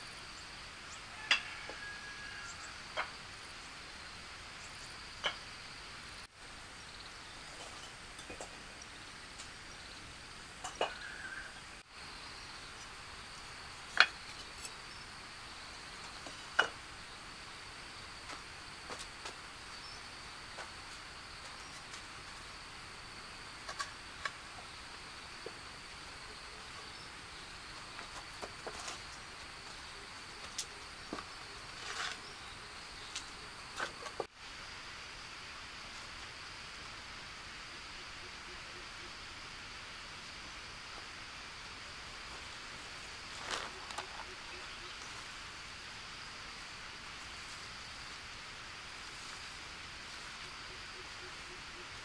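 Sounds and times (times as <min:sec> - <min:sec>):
background hiss: 0:00.0 - 0:52.0
insects droning: 0:00.0 - 0:52.0.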